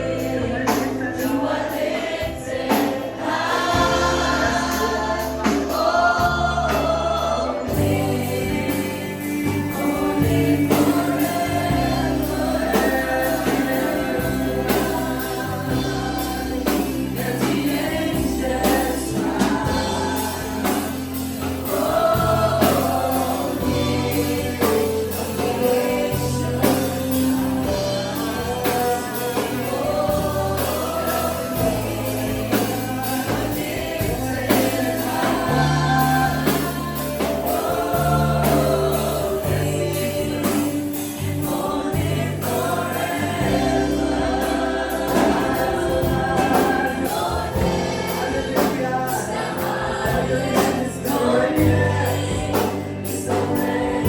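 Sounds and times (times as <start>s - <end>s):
bass line: 0.0s - 54.0s
group of voices singing: 0.0s - 54.0s
steady drum beat: 0.1s - 54.0s.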